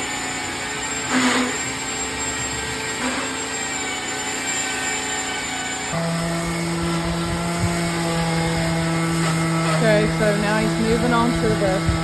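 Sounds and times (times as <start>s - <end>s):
belt sander on wood: 0.0s - 12.0s.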